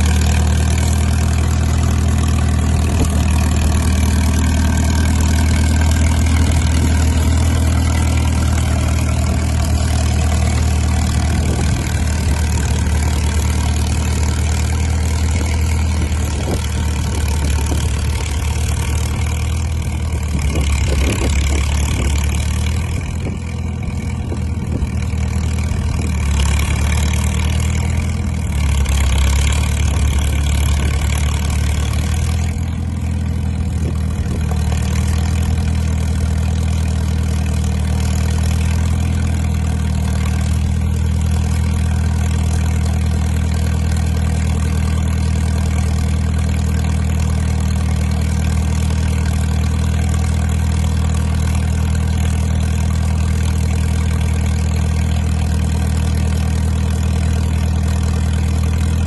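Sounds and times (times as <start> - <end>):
dozer engine idling: 0.0 - 59.0.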